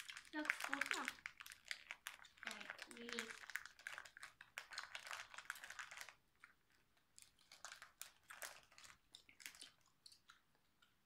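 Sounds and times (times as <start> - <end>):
candy wrapper crinkling: 0.0 - 10.6
chewing candy: 0.0 - 11.0.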